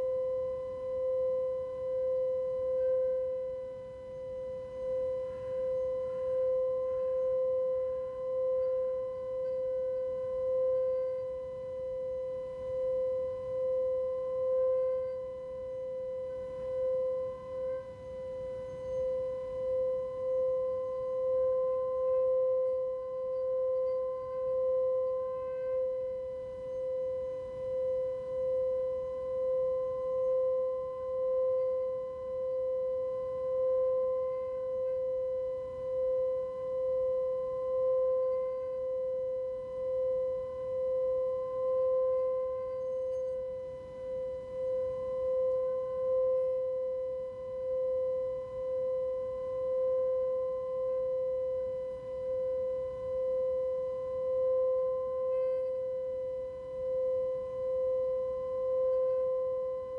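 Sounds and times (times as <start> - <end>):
singing bowl tone: 0.0 - 59.9.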